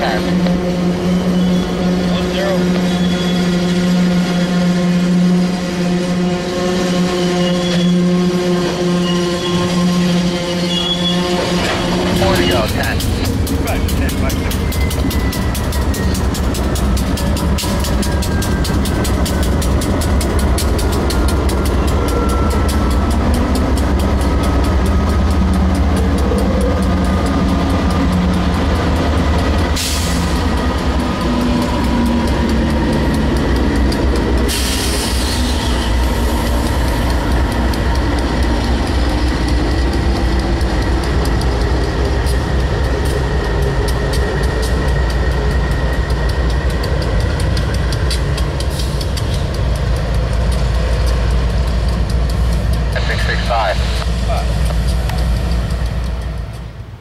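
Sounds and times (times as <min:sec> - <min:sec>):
freight train rumbling by: 0:00.0 - 0:57.0.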